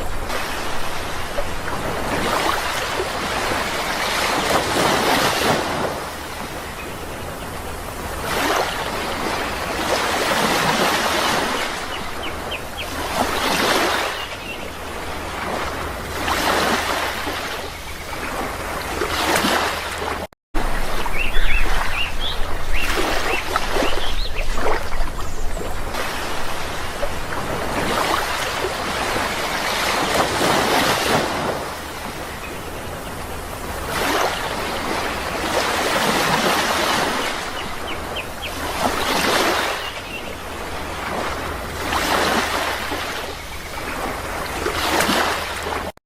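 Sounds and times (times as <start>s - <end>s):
sea waves surging: 0.0s - 46.0s.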